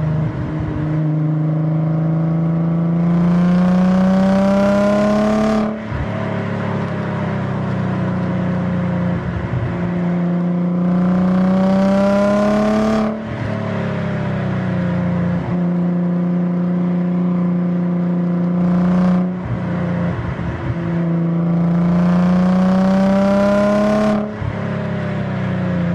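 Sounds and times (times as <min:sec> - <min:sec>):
car engine accelerating through gears: 0:00.0 - 0:25.1.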